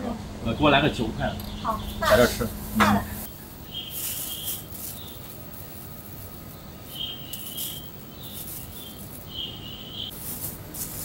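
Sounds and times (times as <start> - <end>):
bird chirping: 0.5 - 10.2
plastic sheet rustling: 2.0 - 11.0.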